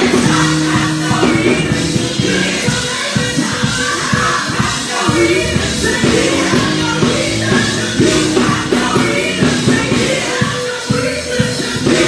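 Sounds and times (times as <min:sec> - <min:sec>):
backing music with drums: 0:00.0 - 0:12.0
women's vocal group singing gospel: 0:00.0 - 0:12.0.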